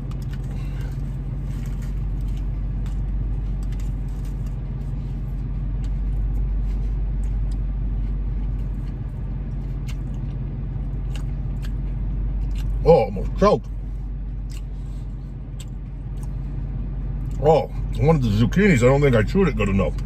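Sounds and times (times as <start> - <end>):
person chewing: 0.0 - 16.6
car engine idling: 0.0 - 20.0.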